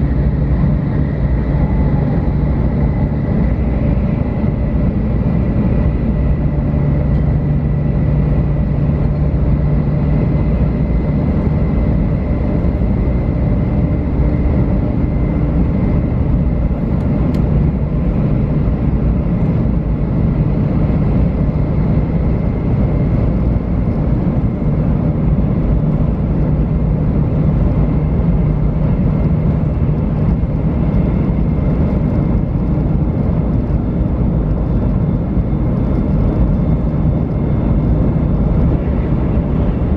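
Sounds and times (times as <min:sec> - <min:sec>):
low hum: 0:00.0 - 0:39.9
train rolling rumble: 0:00.0 - 0:39.9.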